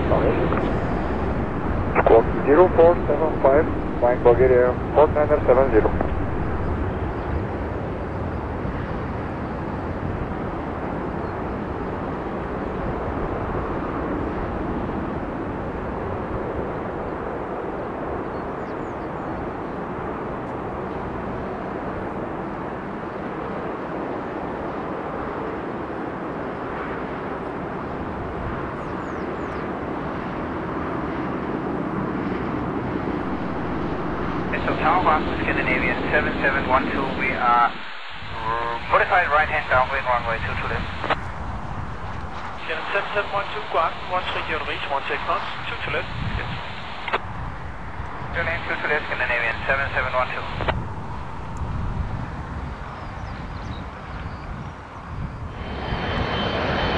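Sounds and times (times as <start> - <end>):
jet engines running: 0.0 - 56.9.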